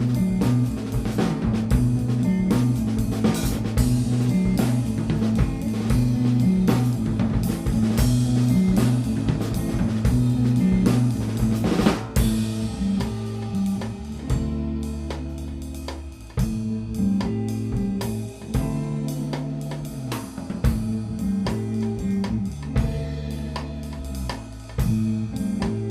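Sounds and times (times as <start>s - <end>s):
live band playing: 0.0s - 25.9s.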